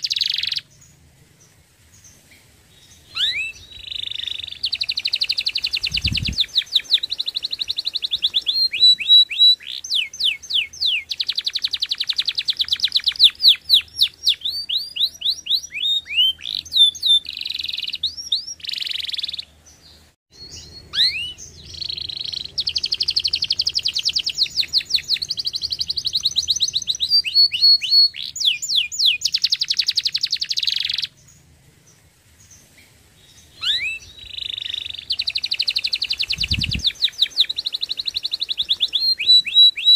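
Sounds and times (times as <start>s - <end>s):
canary singing: 0.0s - 31.4s, 32.5s - 39.9s.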